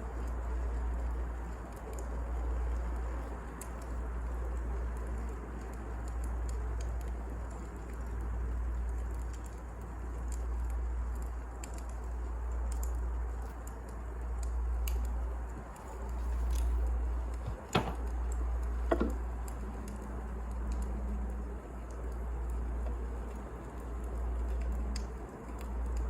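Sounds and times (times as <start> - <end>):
wood fire crackling: 0.0 - 26.0
fire pops: 0.2 - 26.0.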